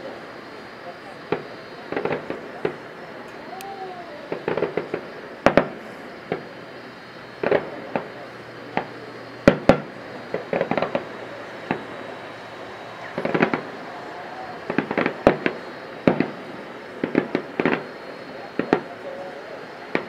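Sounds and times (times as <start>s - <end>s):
distant fireworks bursting: 0.0s - 20.0s.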